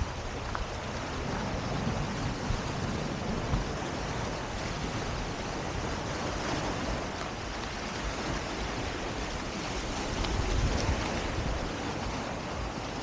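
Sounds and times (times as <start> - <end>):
ocean surf on beach: 0.0 - 13.0
wind on microphone: 0.0 - 13.0.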